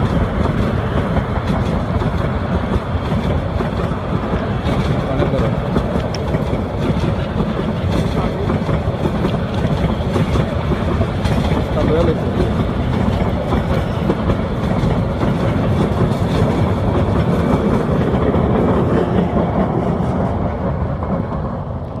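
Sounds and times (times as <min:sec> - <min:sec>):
train rumbling with wheel clatter: 0:00.0 - 0:22.0.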